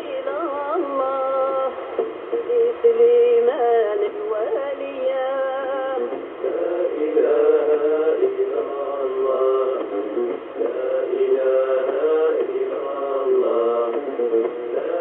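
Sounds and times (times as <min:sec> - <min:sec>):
singing with music on am radio: 0:00.0 - 0:15.0.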